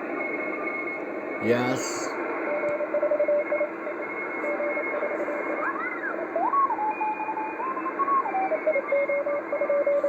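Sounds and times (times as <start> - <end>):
radio static hiss: 0.0 - 10.0
radio whistling tones: 0.0 - 10.0.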